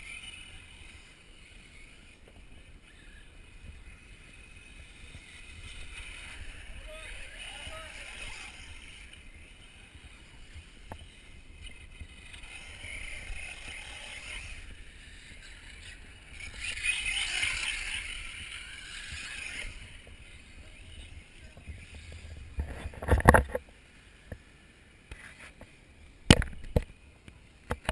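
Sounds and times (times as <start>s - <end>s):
rc buggies racing on dirt: 0.0s - 27.9s.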